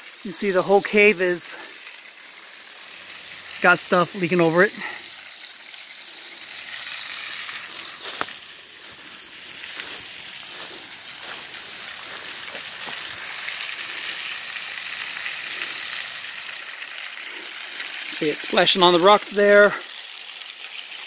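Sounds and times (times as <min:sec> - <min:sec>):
waterfall splashing on rocks: 0:00.0 - 0:21.0.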